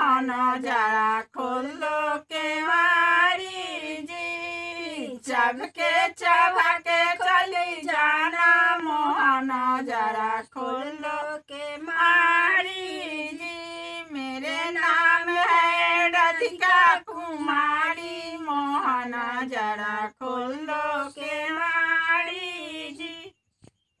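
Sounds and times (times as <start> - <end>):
women singing unaccompanied: 0.0 - 23.4.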